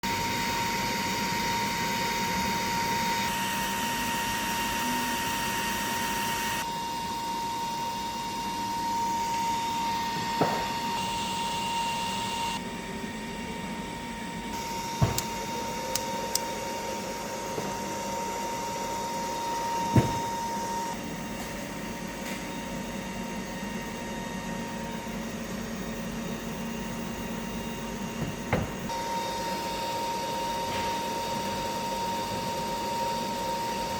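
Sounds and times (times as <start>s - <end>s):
power supply whine: 0.0s - 33.9s.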